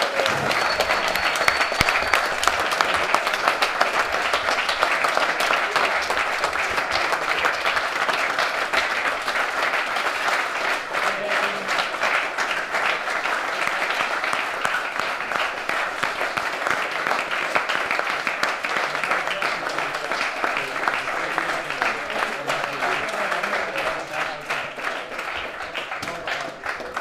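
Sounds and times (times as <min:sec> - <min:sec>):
people applauding: 0:00.0 - 0:27.0.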